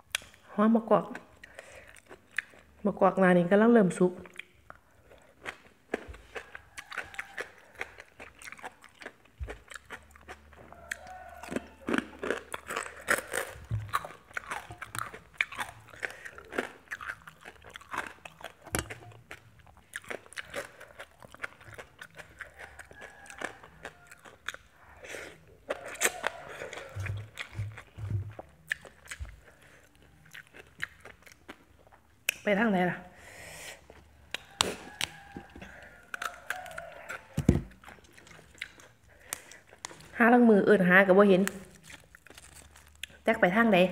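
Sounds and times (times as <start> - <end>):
person crunching and chewing food: 0.0 - 2.8, 4.2 - 32.5, 33.4 - 40.5, 41.3 - 43.9.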